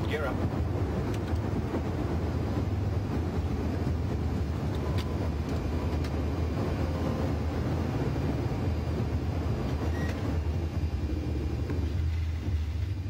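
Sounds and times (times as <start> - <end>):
engine and airflow rumble: 0.0 - 13.0.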